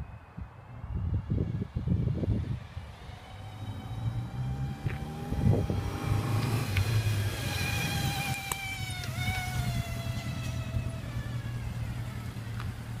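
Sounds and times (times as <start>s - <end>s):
car hum: 0.0s - 13.0s.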